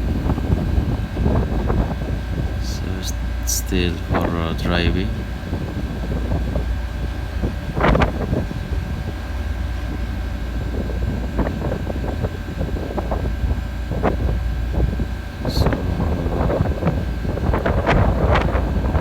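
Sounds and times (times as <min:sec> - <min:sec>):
crane engine droning: 0:00.0 - 0:19.0
thin steady whine: 0:00.0 - 0:19.0.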